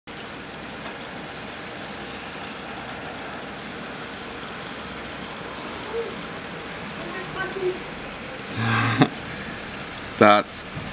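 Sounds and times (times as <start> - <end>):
wet snow falling hiss: 0.3 - 10.9.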